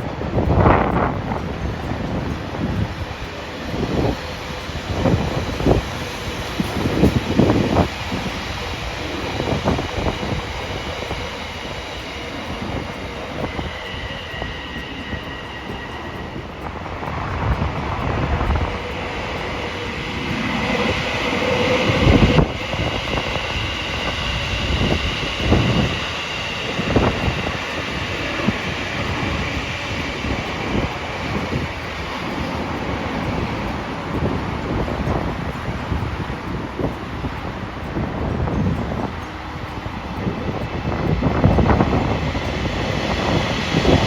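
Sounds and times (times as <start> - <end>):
high steady tones: 0.0 - 44.0
train rumbling past: 0.0 - 44.0.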